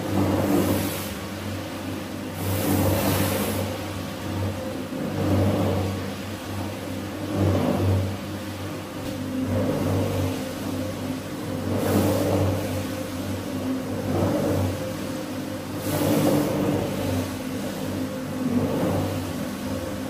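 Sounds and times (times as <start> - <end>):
rug-cleaning machine humming: 0.0 - 20.0.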